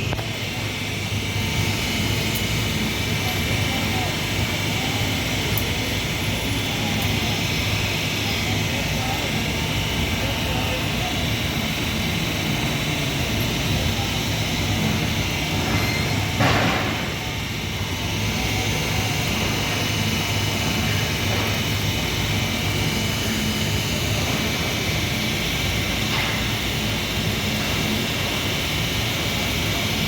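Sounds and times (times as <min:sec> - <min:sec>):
workshop machinery humming: 0:00.0 - 0:30.0.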